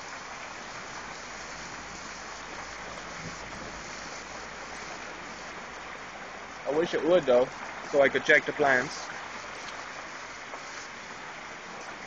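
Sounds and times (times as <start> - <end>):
heavy rain: 0.0 - 12.0
runoff water streaming: 0.0 - 12.0.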